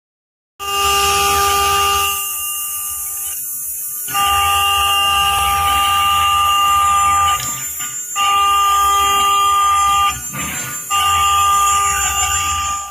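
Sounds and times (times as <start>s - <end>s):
router spindle high whine: 0.6s - 12.9s.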